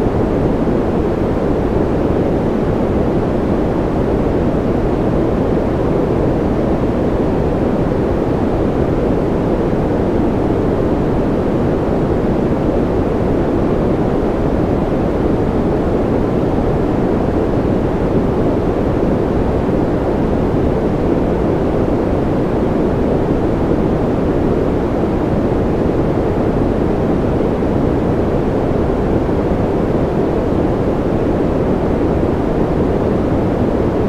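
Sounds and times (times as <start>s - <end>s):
deep steady noise rush: 0.0s - 34.0s.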